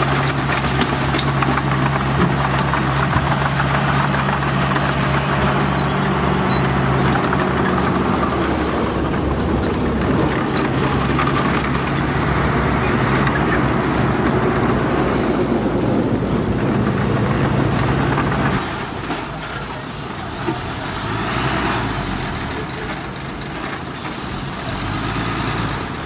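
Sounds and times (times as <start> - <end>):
diesel engine running: 0.0 - 26.0
loud mechanical clatter: 0.0 - 26.0.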